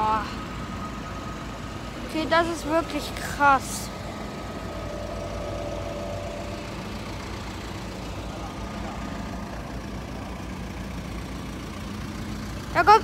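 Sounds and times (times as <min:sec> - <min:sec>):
tractor engines driving past: 0:00.0 - 0:13.0.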